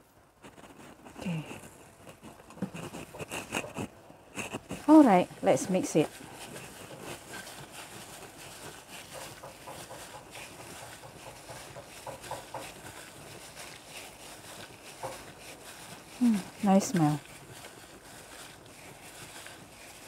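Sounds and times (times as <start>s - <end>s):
soft mixing of meat in a bowl: 0.1s - 20.0s.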